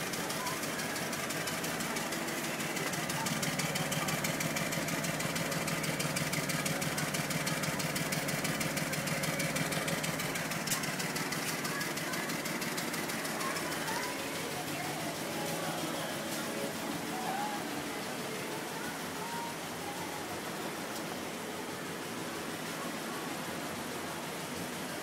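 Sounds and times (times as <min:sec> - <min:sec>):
misfiring car engine idling: 0:00.0 - 0:25.0.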